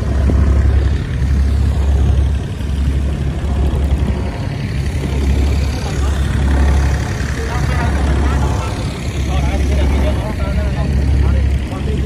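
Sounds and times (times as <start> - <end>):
boat engine droning: 0.0 - 12.0
rush of noise: 0.0 - 12.0.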